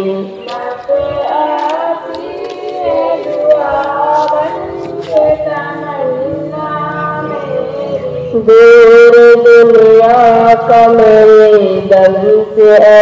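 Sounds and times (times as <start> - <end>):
person singing unaccompanied: 0.0 - 13.0.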